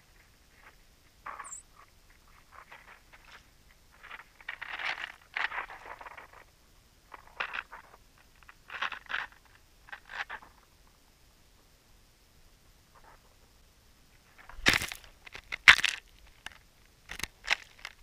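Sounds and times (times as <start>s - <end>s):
birds scratching and pecking in snow: 0.0s - 11.1s, 12.9s - 13.5s, 14.1s - 18.0s.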